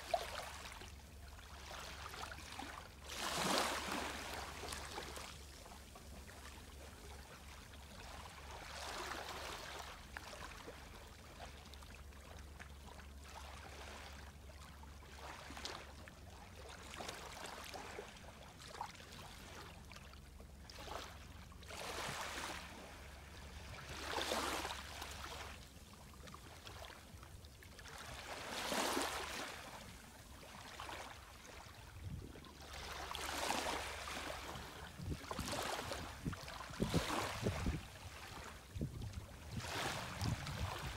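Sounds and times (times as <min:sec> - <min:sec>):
gentle waves lapping on sand: 0:00.0 - 0:40.9.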